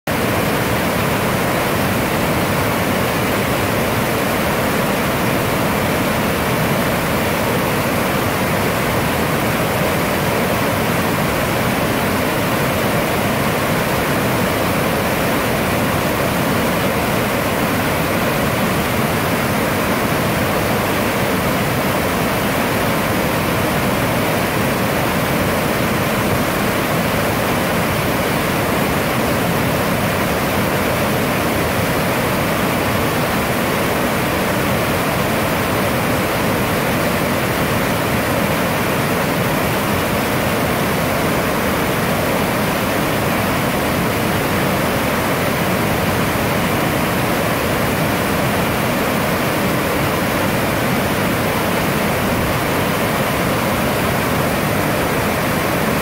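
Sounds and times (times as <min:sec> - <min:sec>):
waterfall rushing: 0:00.1 - 0:56.0.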